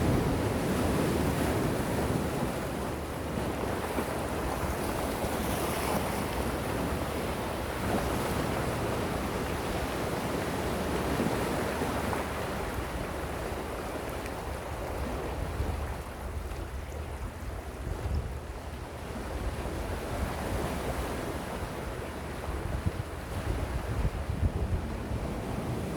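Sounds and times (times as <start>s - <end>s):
ocean waves washing ashore: 0.0s - 25.9s.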